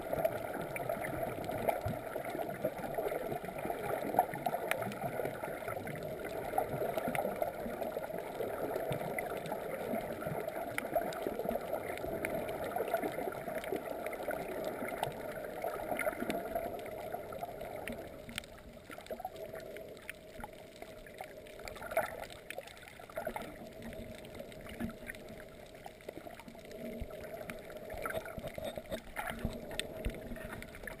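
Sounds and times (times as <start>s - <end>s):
muffled underwater water noise: 0.0s - 31.0s
faint clicks: 0.1s - 31.0s.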